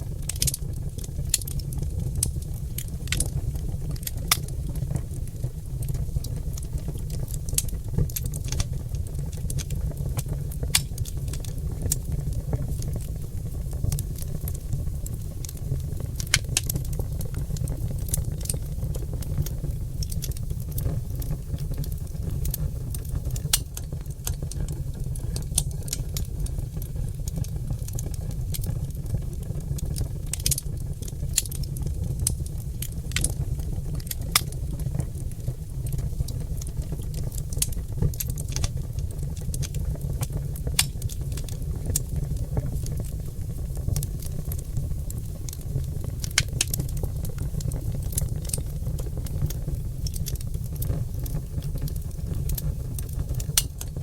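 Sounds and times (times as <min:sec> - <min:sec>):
logs crackling in fireplace: 0:00.0 - 0:54.0.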